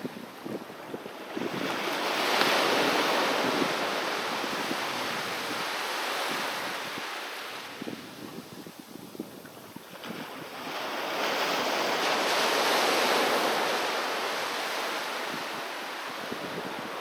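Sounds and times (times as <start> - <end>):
sea wave washing onto beach: 1.2 - 8.4, 9.5 - 17.0.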